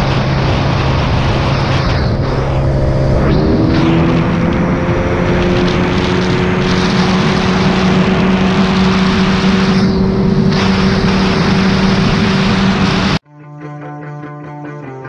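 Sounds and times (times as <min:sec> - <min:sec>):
outboard motor drone: 0:00.0 - 0:13.2
rush of wind and water: 0:00.0 - 0:13.2.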